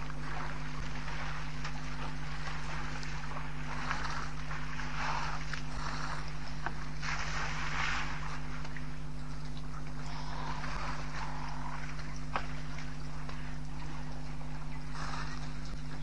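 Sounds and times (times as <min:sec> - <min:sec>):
low electrical hum: 0:00.0 - 0:16.0
water splashing and sloshing: 0:00.0 - 0:16.0.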